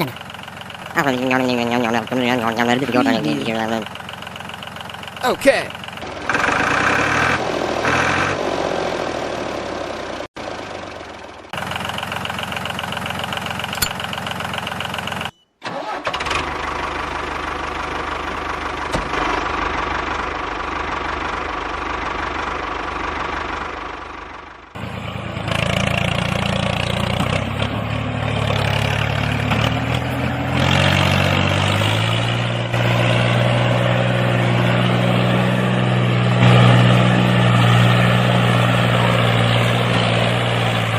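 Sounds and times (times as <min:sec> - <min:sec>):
small diesel engine running: 0:00.0 - 0:40.9.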